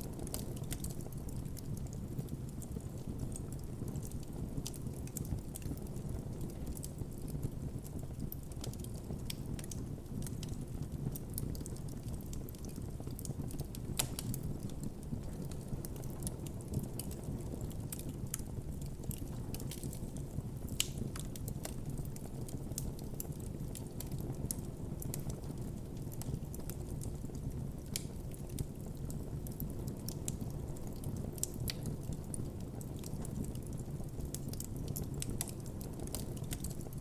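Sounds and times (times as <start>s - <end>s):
crackles and pops of burning wood: 0.0s - 37.0s
low rumble of flames: 0.0s - 37.0s.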